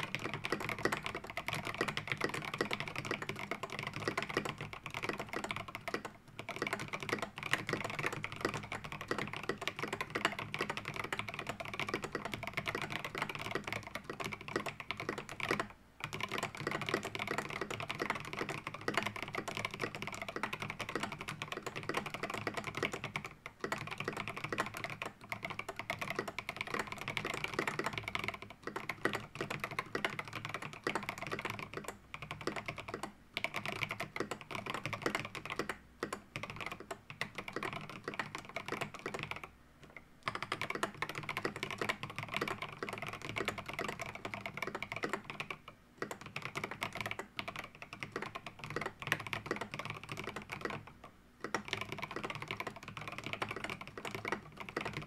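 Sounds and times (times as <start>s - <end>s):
typing on mechanical keyboard: 0.0s - 55.0s.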